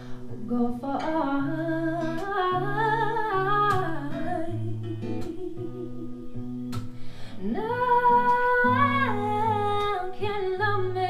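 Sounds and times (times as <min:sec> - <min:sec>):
acoustic guitar chords: 0:00.0 - 0:11.0
person singing: 0:00.4 - 0:11.0.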